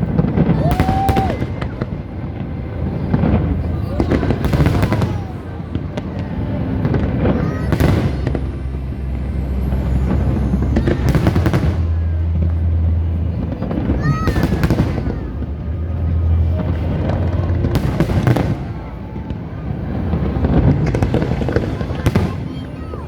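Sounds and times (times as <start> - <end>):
fireworks crackling: 0.0 - 23.0
low rumble: 0.0 - 23.0.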